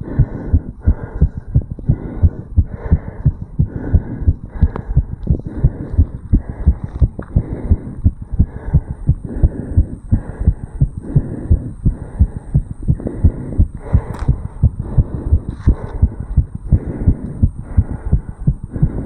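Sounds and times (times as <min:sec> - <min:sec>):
heartbeat lub-dub beats: 0:00.0 - 0:19.0.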